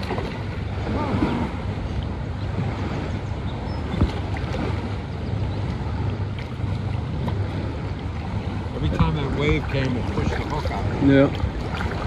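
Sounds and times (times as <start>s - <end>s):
small waves lapping: 0.0s - 12.0s
wind rumbling on microphone: 0.0s - 12.0s.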